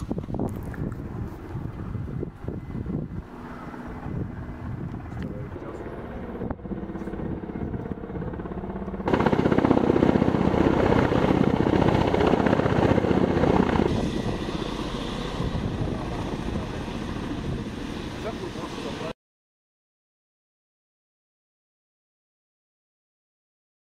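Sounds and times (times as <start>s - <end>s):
helicopter passing low: 0.0s - 19.2s
helicopter rotors beating: 0.0s - 19.2s.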